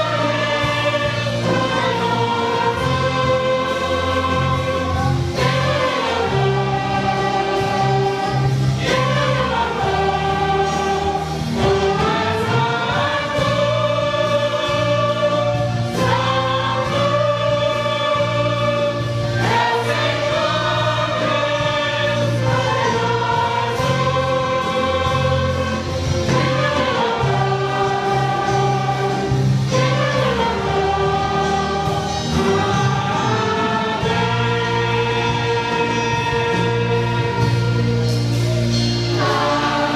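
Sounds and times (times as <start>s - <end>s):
orchestra playing a hymn: 0.0s - 39.9s.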